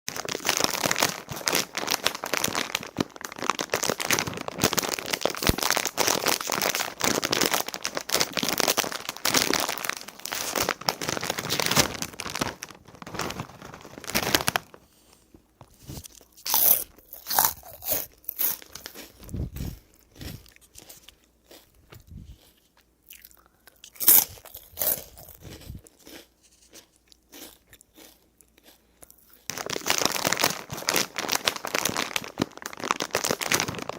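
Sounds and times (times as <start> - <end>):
chips being crunched and chewed: 0.1 - 12.4, 15.9 - 33.9
chip bag crackling: 0.1 - 14.8, 15.8 - 22.5, 23.9 - 28.2, 29.3 - 33.9.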